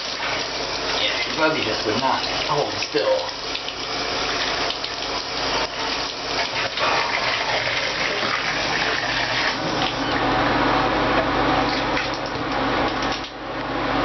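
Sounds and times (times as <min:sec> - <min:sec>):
tap water running and splashing: 0:00.0 - 0:10.4, 0:11.6 - 0:13.4.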